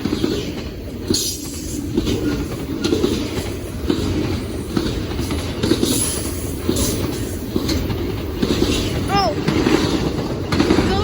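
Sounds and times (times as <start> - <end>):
train rumble: 0.0 - 11.0
train wheels clacking: 0.0 - 11.0.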